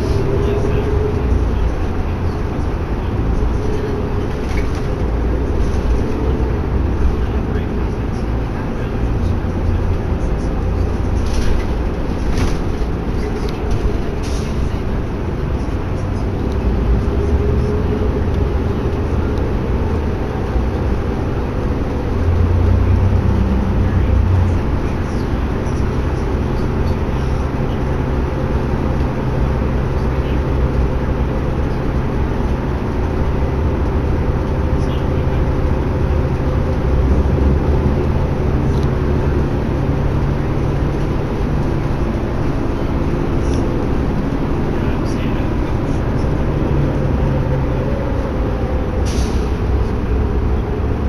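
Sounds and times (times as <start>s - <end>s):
bus engine drone: 0.0s - 51.0s
road rumble: 0.0s - 51.0s.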